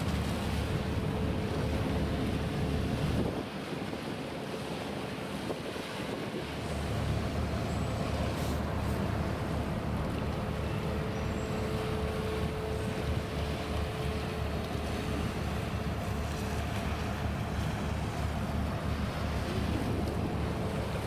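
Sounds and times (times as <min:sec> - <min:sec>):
ship low rumble: 0:00.0 - 0:21.0
wind buffeting microphone: 0:00.0 - 0:21.0.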